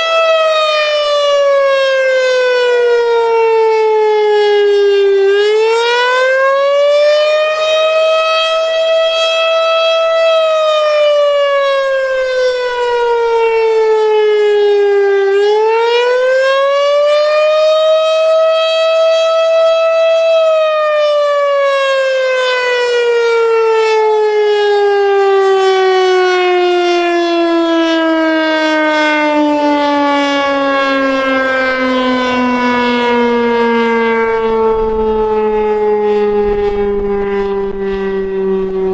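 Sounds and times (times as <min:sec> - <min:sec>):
warning siren rising and falling: 0:00.0 - 0:38.9.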